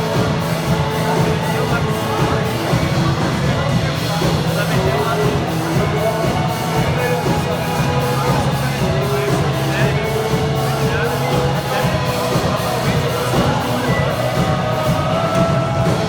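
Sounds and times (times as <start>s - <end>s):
live band playing worship song: 0.0s - 16.0s.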